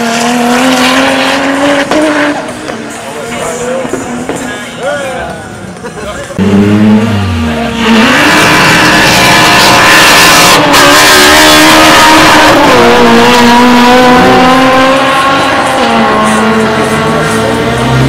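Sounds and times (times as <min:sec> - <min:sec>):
race car engine accelerating: 0:00.0 - 0:04.4, 0:06.4 - 0:18.0.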